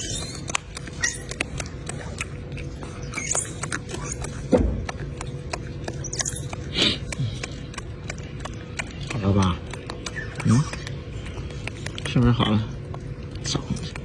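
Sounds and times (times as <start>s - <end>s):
monkey squeaking: 0.0s - 13.0s
small clicks pattering: 0.0s - 14.0s.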